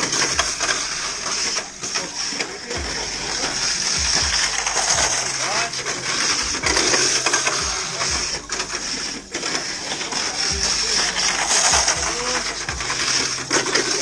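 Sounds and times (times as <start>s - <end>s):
electric motor whine: 0.0s - 14.0s
toy cars clattering on track: 0.0s - 14.0s.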